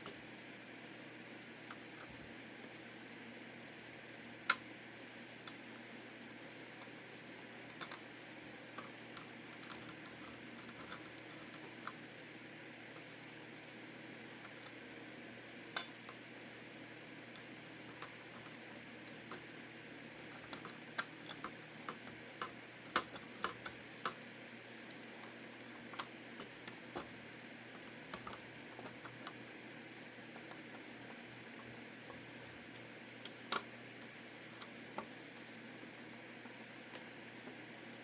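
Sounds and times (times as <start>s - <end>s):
fan hum and hiss: 0.0s - 38.0s.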